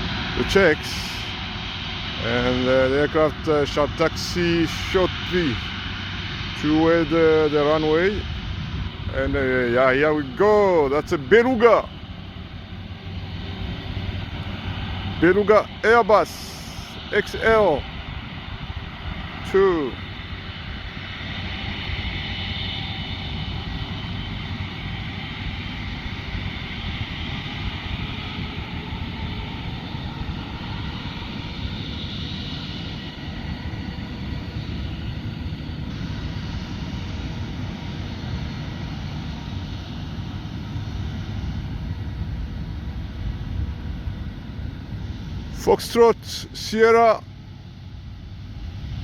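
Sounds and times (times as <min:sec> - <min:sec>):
jet engine rumble: 0:00.0 - 0:49.0
jet engine whine: 0:00.0 - 0:49.0.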